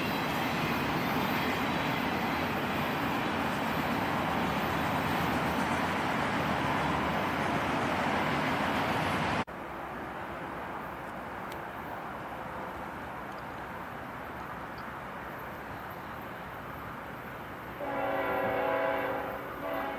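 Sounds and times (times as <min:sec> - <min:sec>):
outdoor background noise: 0:00.0 - 0:19.9
train cars rolling on track: 0:00.0 - 0:19.9.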